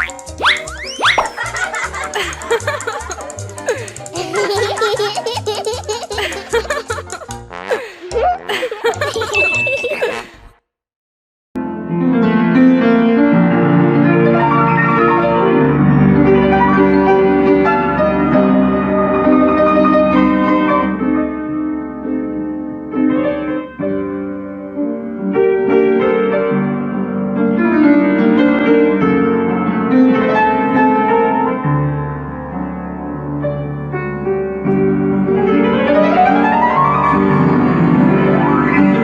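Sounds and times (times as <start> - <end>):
piano music: 0.0 - 10.3, 11.6 - 39.0.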